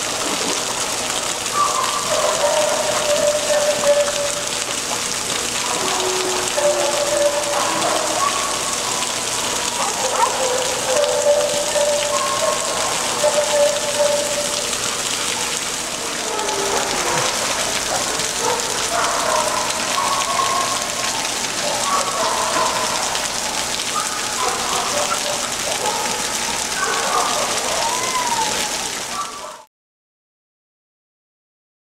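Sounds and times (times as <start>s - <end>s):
water jets spraying on pavement: 0.0s - 29.6s.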